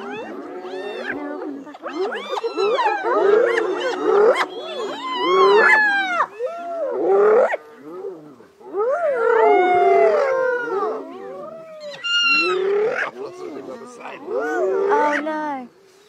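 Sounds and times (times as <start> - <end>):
hyenas whooping: 0.0 - 8.1, 8.7 - 15.3.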